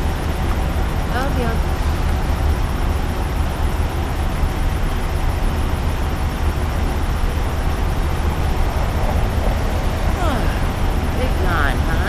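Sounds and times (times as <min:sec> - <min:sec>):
heavy trucks running: 0:00.0 - 0:12.0
traffic rumble and hiss: 0:00.0 - 0:12.0.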